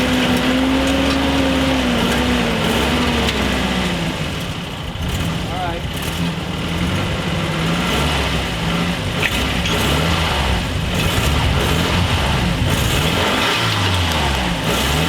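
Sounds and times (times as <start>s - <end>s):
pickup engine running: 0.0s - 15.0s.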